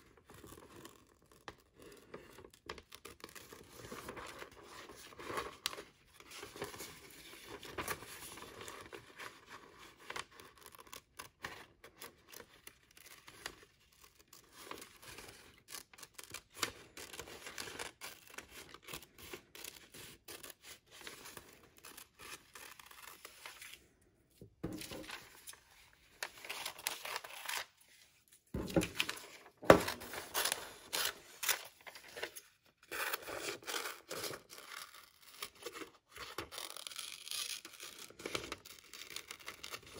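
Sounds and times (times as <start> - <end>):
paper rustling: 0.4 - 23.8, 24.6 - 34.6.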